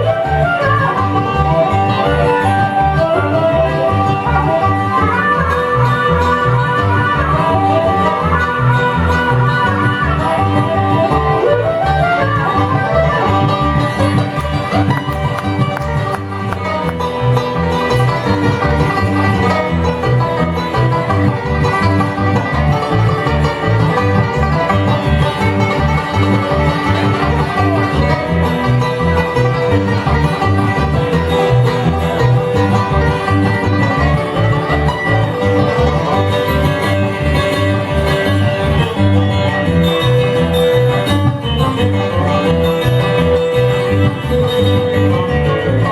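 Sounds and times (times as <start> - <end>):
bluegrass band playing: 0.0 - 45.9.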